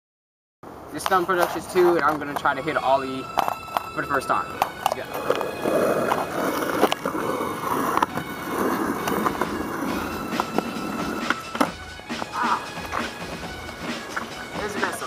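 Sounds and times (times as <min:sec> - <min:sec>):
skateboard wheels rolling on concrete: 0:00.6 - 0:15.0.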